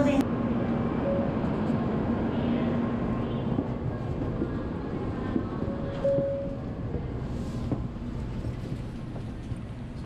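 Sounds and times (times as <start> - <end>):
train standing background noise: 0.0 - 10.0.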